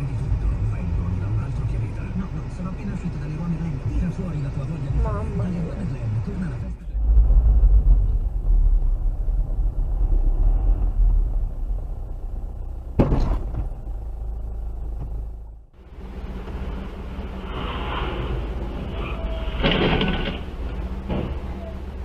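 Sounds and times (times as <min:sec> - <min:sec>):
low car cabin rumble: 0:00.0 - 0:22.0.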